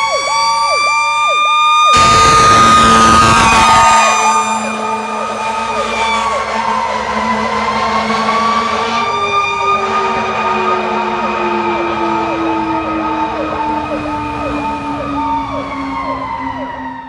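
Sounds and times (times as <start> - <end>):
electronic siren yelping: 0.0 - 17.0
engine and road noise: 0.0 - 17.0
falling and rising siren: 0.0 - 17.0.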